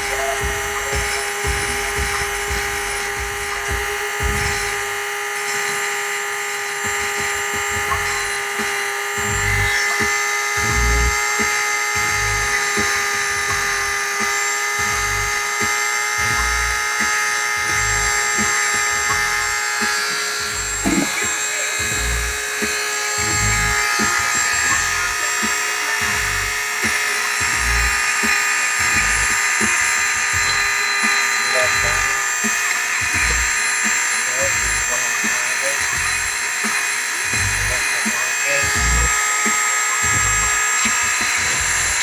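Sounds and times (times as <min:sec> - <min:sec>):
rotary tool grinding steel: 0:00.0 - 0:42.0.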